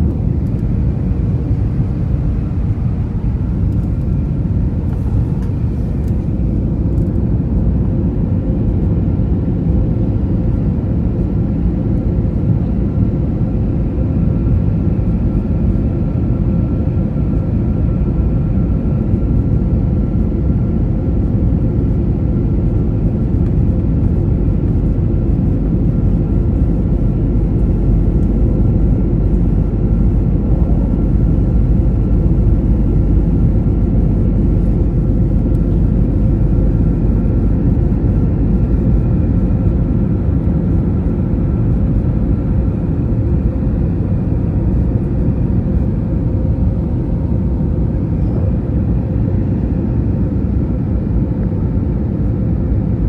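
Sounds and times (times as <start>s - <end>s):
aircraft cabin engine rumble: 0.0s - 53.0s
faint steady whine: 0.0s - 53.0s.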